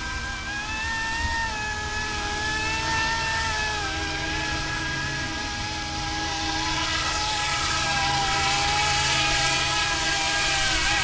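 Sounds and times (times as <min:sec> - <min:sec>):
rc helicopter rotors whining: 0:00.0 - 0:11.0
wind rumble on microphone: 0:00.0 - 0:11.0.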